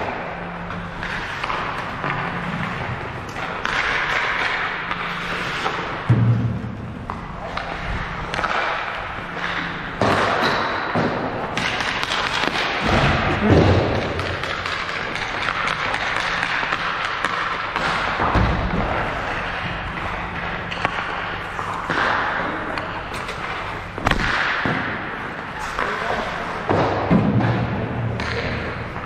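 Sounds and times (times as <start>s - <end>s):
pucks and sticks hitting boards: 0.0s - 29.0s.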